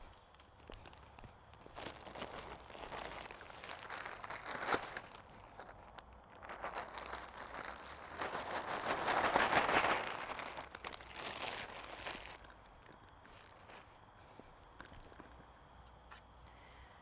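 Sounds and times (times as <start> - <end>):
compost rustling and crunching: 0.0 - 16.4.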